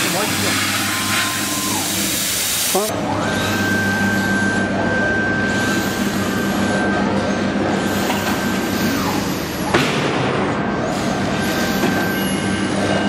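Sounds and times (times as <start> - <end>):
factory machinery hum: 0.0 - 13.0.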